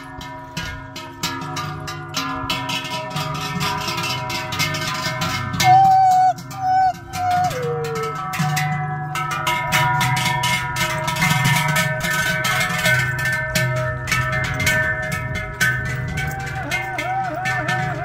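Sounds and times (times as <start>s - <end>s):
cowbells clanging: 0.0s - 18.0s.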